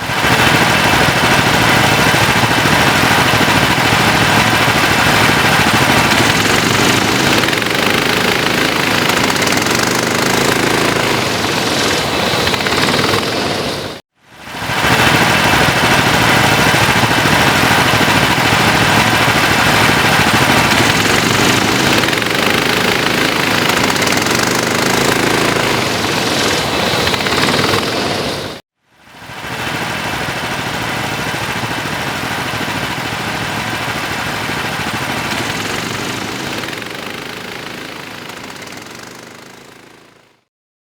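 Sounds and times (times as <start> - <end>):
kart engines at high revs: 0.0 - 40.5.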